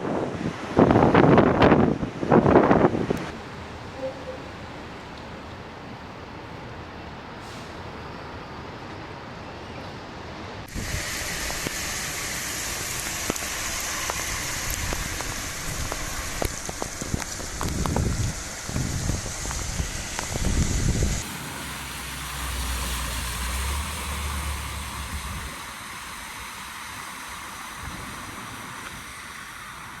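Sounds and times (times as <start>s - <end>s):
rain: 0.0s - 30.0s
wind: 0.0s - 30.0s.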